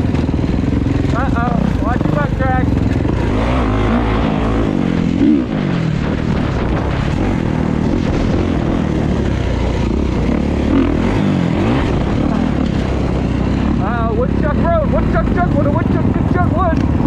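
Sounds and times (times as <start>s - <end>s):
dirt bike engine revving: 0.0s - 17.0s
wind rushing over microphone: 0.0s - 17.0s.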